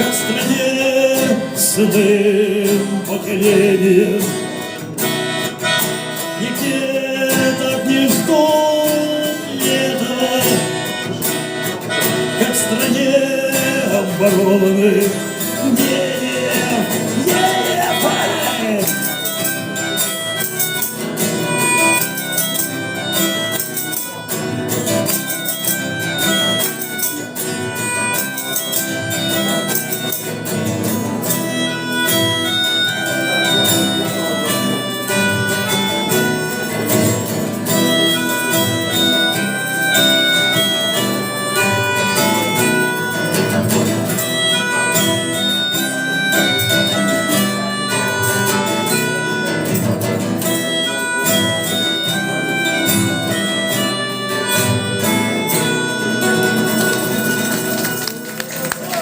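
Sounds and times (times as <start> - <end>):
guitars: 0.0 - 59.0
harmonica: 0.0 - 59.0
fiddle: 3.9 - 59.0.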